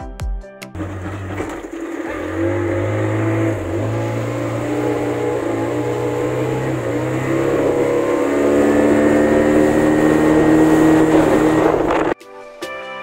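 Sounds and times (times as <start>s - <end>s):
outboard motor running: 0.8s - 12.2s.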